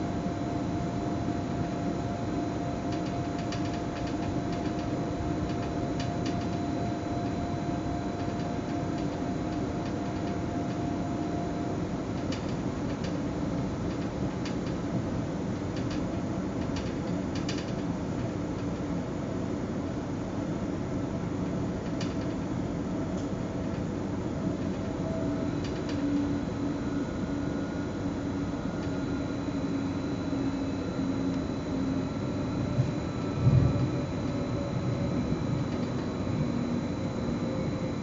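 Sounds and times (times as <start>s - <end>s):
steady hum: 0.0s - 17.3s, 17.9s - 38.0s.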